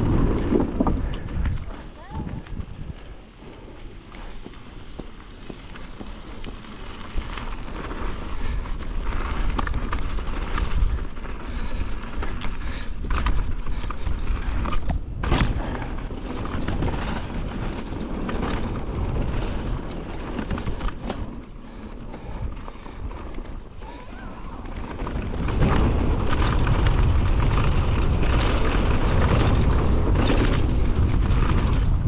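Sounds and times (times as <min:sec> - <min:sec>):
bike rattling and knocking: 0:00.0 - 0:32.0
wind rumble on microphone: 0:00.0 - 0:32.0.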